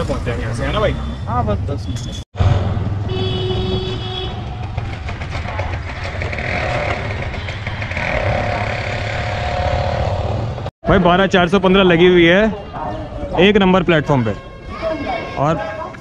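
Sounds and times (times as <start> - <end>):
auto-rickshaw engine humming: 0.0 - 13.5
traffic noise: 0.0 - 16.0.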